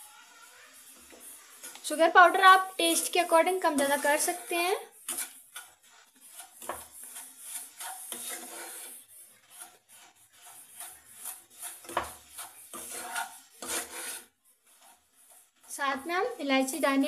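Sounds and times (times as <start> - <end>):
wooden spatula scraping a pan: 0.0 - 17.0.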